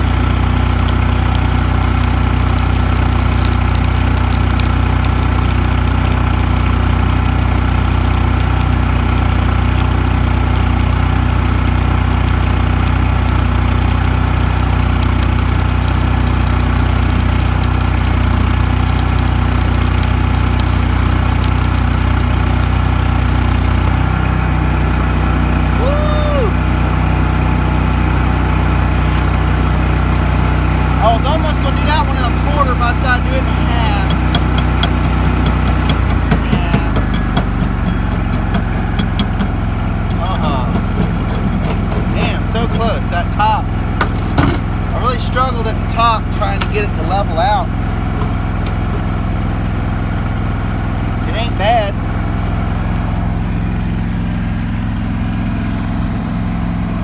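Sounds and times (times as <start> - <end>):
welding arc crackling: 0.0 - 52.6
welder engine running: 0.0 - 57.0.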